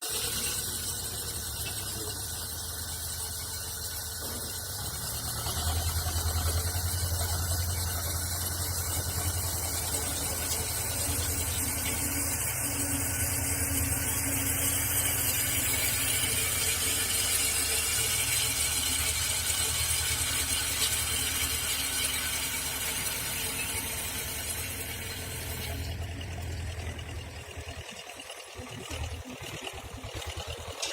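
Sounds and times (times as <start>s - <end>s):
electric cultivator humming: 0.0s - 30.9s.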